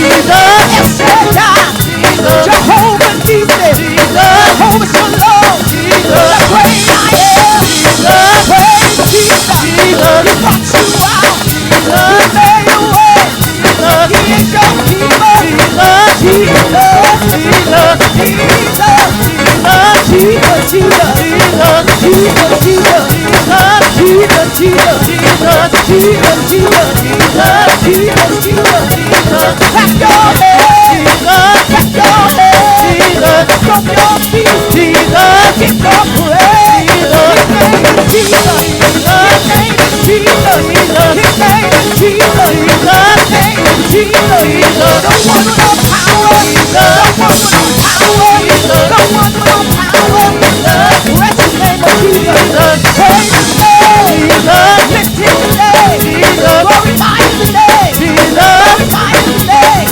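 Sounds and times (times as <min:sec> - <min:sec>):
band playing fast groove: 0:00.0 - 0:59.9.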